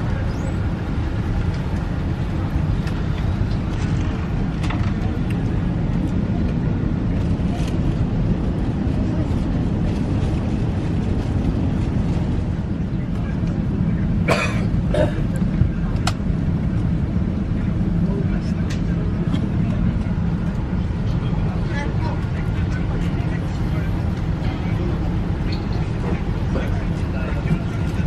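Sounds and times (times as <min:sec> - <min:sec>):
aircraft cabin hum: 0:00.0 - 0:28.0.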